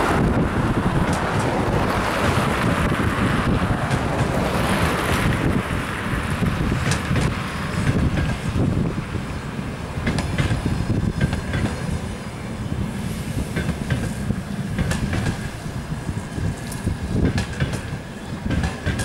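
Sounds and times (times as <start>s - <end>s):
wheels clicking over track joints: 0.0s - 9.0s, 10.0s - 11.9s, 13.5s - 15.6s, 16.4s - 19.0s
train wheels rumbling on rail: 0.0s - 19.0s.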